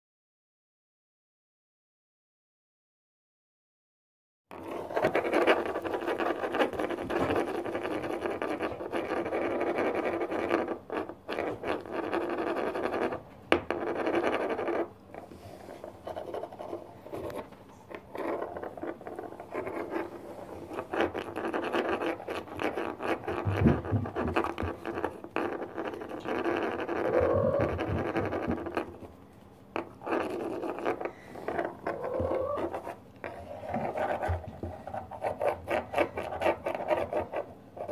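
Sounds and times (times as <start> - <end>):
kitten claws scratching wooden floor: 4.5 - 37.9.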